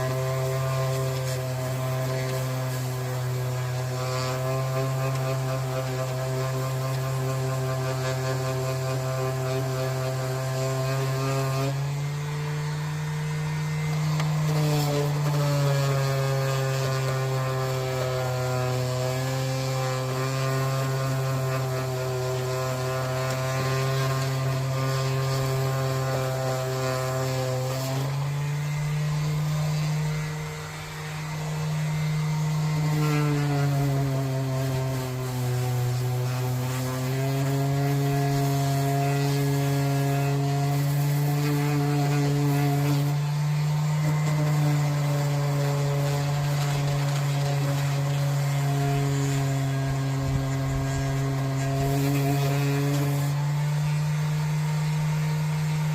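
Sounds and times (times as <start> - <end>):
power tool motor running: 0.0 - 55.9.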